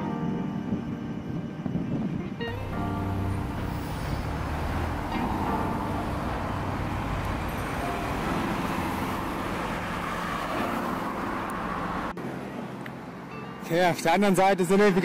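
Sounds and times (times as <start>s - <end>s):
road traffic: 0.4s - 15.0s.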